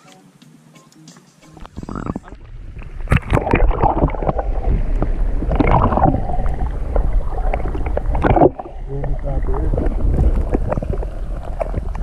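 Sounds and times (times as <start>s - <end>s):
muffled water rushing and gurgling: 1.6s - 12.0s
steady low rumble: 1.6s - 12.0s.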